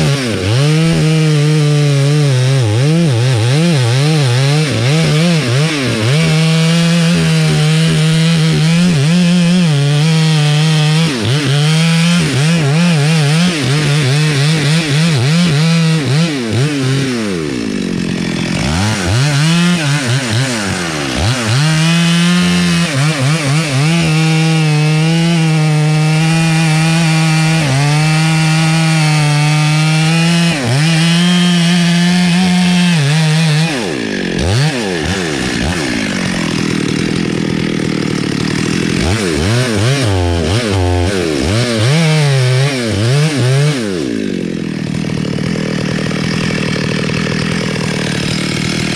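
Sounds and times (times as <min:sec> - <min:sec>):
chainsaw cutting into tree trunk: 0:00.0 - 0:48.9.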